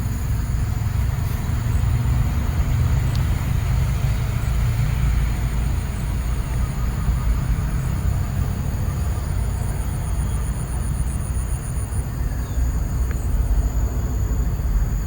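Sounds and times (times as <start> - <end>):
faint high drone: 0.0 - 15.0.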